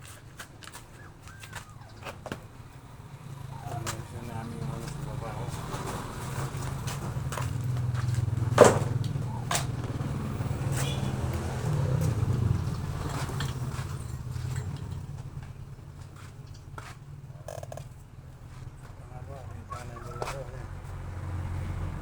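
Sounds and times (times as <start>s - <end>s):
passing vehicle engine hum: 0.6s - 22.0s.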